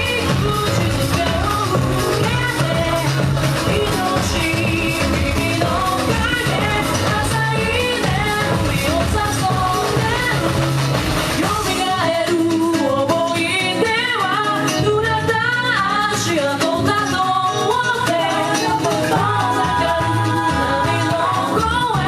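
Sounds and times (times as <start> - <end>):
pop dance song with singing: 0.0 - 22.0.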